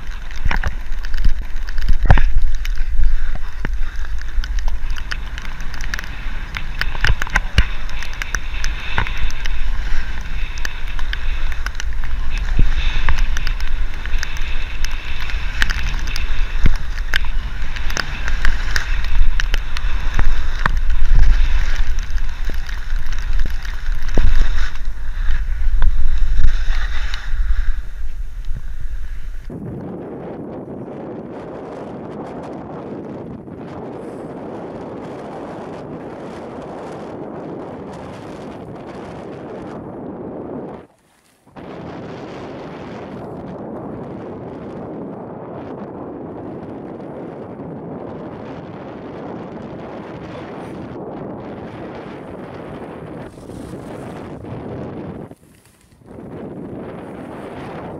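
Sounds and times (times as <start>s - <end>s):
skis scraping on packed snow: 0.0s - 29.7s, 33.0s - 44.5s, 46.0s - 57.9s
wind buffeting microphone: 0.0s - 57.9s.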